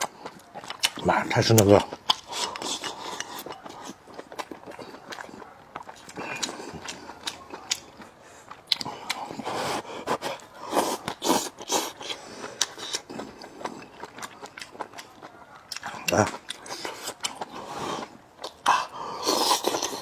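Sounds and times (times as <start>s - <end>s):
chewing and biting food: 0.0s - 20.0s.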